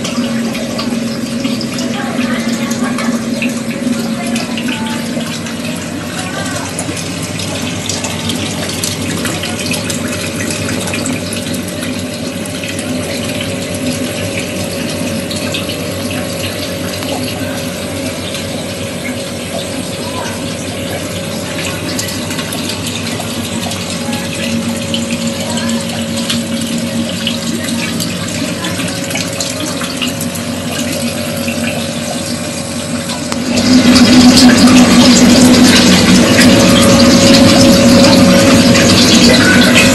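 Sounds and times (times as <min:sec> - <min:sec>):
steady hum: 0:00.0 - 0:39.9
water trickling through pipes: 0:00.0 - 0:39.9.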